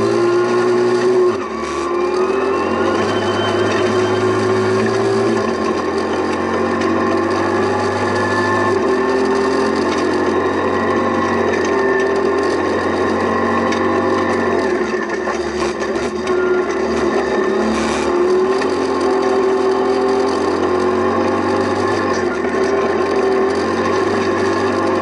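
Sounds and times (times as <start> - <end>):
rally car engine running hard: 0.0 - 25.0.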